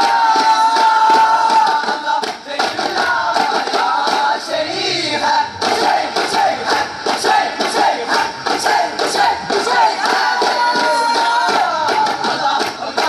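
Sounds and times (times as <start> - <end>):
men singing in chorus: 0.0 - 13.0.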